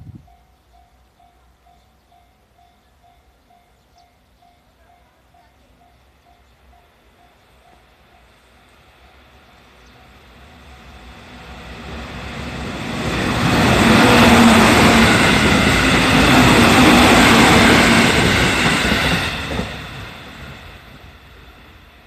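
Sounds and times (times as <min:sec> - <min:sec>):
electric train passing at speed: 0:00.0 - 0:22.0.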